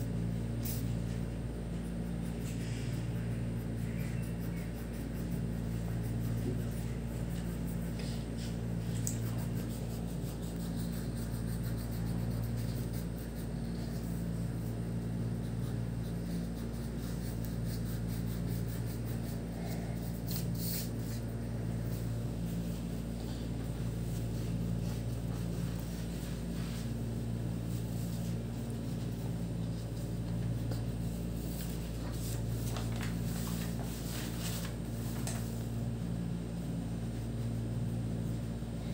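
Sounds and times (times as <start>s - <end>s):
electric fan humming: 0.0s - 38.9s
crayon scratching on paper: 0.5s - 32.6s.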